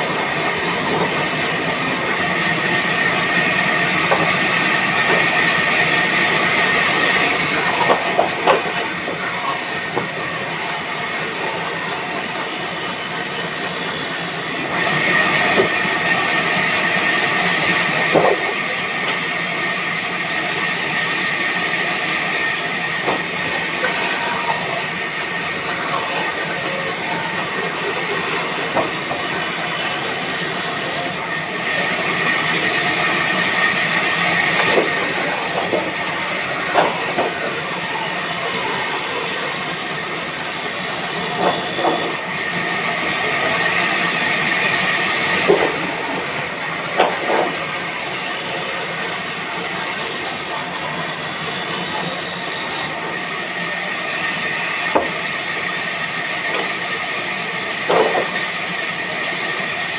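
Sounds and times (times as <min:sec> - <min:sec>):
band saw hissing: 0:00.0 - 0:59.8.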